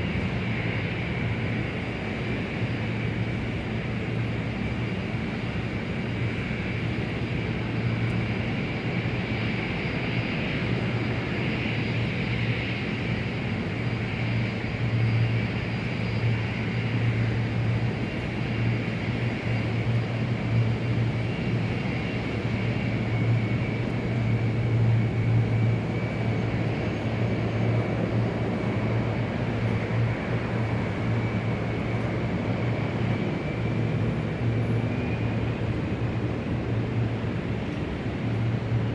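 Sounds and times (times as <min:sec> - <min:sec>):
aircraft engines humming: 0:00.0 - 0:38.9.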